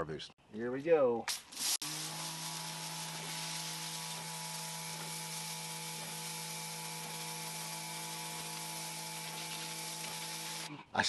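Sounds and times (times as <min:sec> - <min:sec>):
pressure washer spray hissing: 0:01.3 - 0:10.7
electric pump hum: 0:01.4 - 0:10.7.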